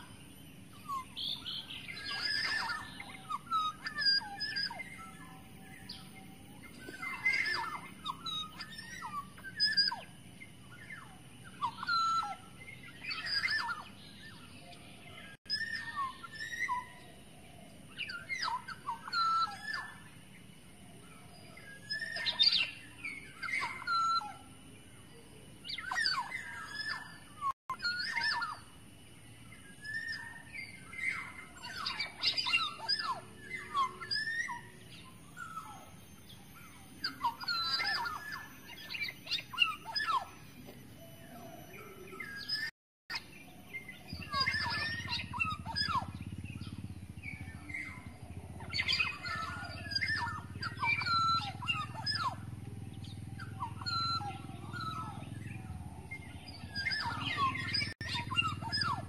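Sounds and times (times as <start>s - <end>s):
bird singing whistled notes: 0.0s - 59.0s.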